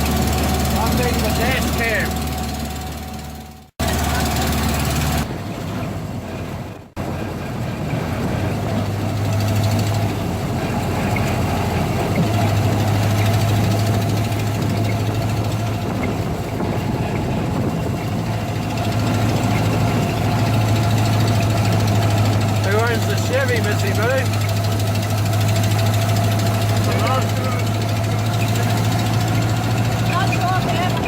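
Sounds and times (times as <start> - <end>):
vintage car engine running: 0.0 - 31.0.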